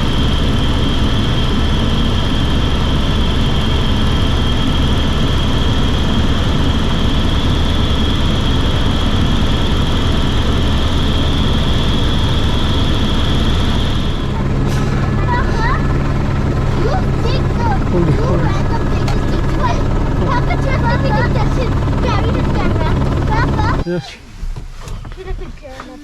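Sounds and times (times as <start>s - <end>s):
helicopter engine and rotors: 0.0s - 26.0s.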